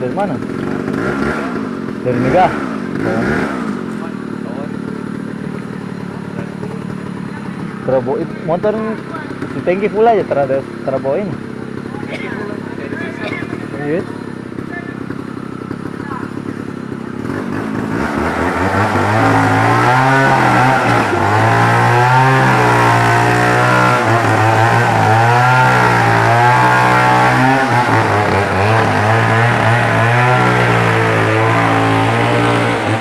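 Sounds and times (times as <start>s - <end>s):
small petrol engine running hard: 0.0s - 33.0s.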